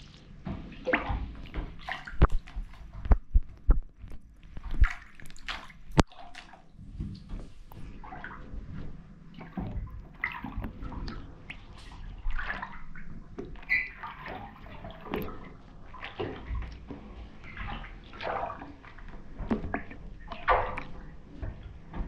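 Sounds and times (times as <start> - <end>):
boots splashing in shallow water: 0.0 - 22.0.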